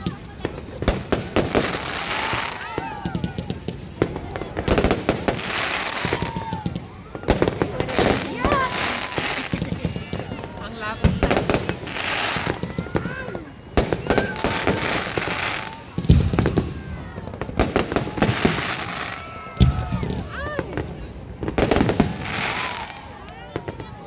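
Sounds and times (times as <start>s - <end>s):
crowd voices: 0.0s - 24.0s
fireworks bangs: 0.0s - 24.0s
fireworks crackling: 0.0s - 24.0s.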